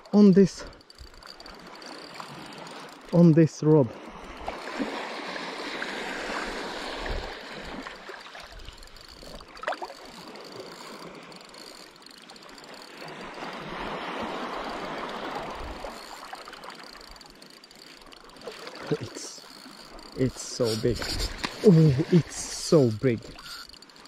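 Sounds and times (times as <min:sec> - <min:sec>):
small waves lapping on shore: 0:00.0 - 0:24.0.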